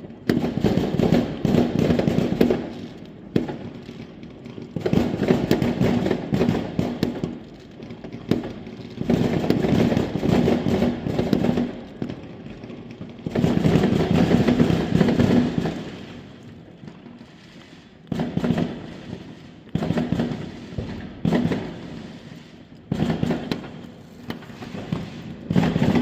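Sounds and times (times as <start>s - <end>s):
fireworks crackling bangs: 0.0s - 26.0s.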